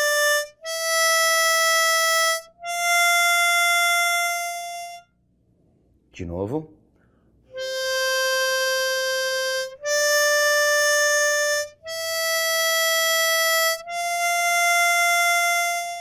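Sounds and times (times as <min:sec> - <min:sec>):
harmonica long held notes: 0:00.0 - 0:05.2, 0:07.5 - 0:16.0.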